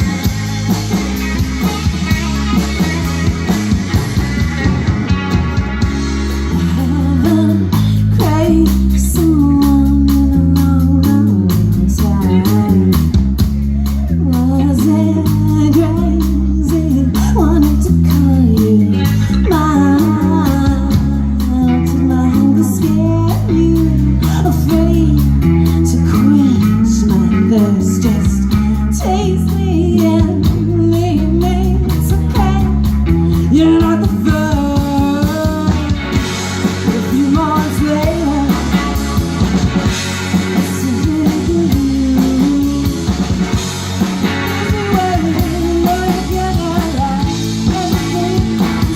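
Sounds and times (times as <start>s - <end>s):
bass line: 0.0s - 48.9s
drums and cymbals: 0.0s - 48.9s
electric guitar: 0.0s - 48.9s
person singing: 6.5s - 39.4s, 40.2s - 43.5s, 44.2s - 48.9s.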